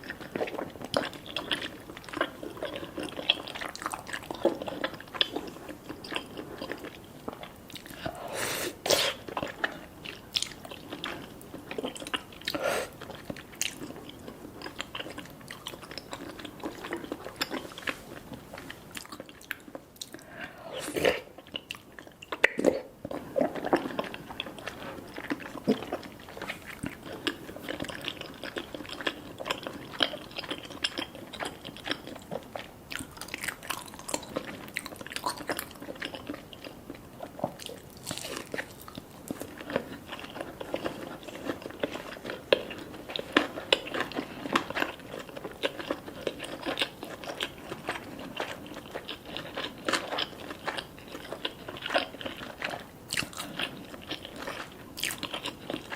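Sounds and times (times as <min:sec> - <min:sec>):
person chewing crunchy food: 0:00.0 - 0:55.9.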